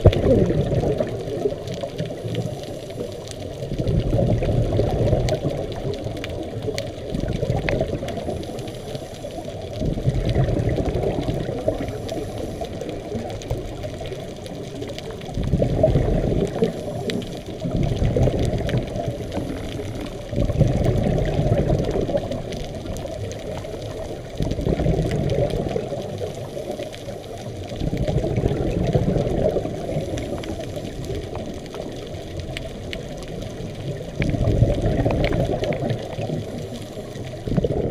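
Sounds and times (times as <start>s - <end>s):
underwater bubbles gurgling: 0.0s - 37.9s
underwater rumble: 0.0s - 37.9s.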